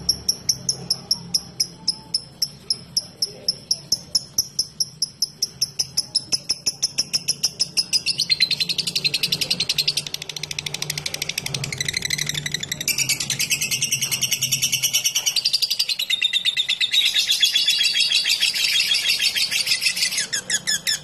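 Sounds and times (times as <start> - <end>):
bird ticking call and chattering trill: 0.0 - 21.0.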